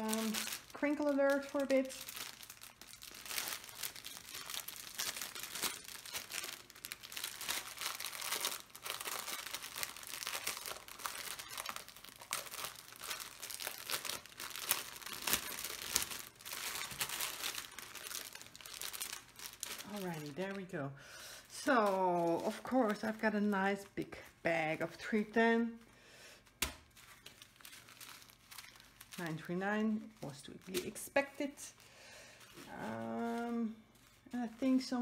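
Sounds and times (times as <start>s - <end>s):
small packets shifting: 0.0s - 20.7s, 21.5s - 23.9s, 26.4s - 35.0s
plastic bag crinkling: 0.0s - 25.8s, 26.4s - 35.0s.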